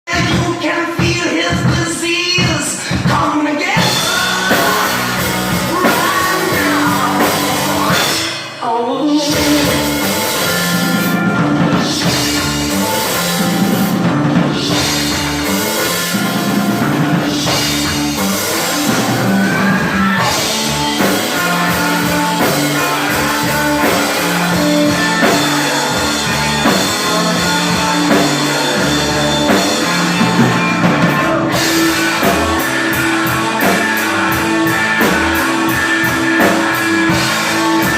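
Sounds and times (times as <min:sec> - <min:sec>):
person singing: 0:00.1 - 0:13.9, 0:14.5 - 0:37.9
rock music with drums: 0:00.1 - 0:37.9.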